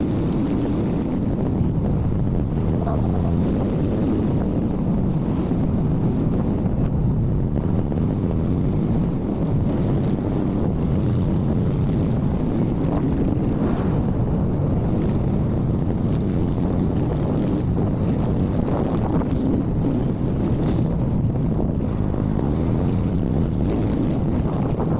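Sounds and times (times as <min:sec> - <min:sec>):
motorcycle engine and road noise: 0:00.0 - 0:24.9
wind rushing over microphone: 0:00.0 - 0:24.9.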